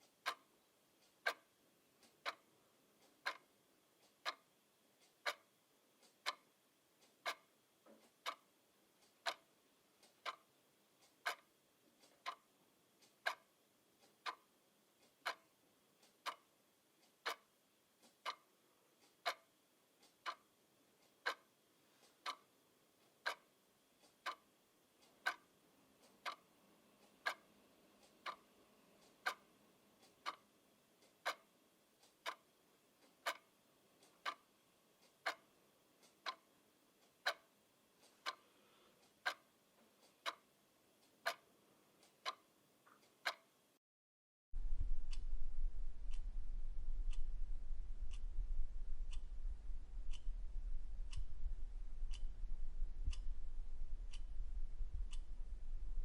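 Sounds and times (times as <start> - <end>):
faint clicks: 0.0 - 26.4, 27.0 - 43.5, 44.6 - 56.0
clock ticking: 0.0 - 43.8, 44.6 - 56.0.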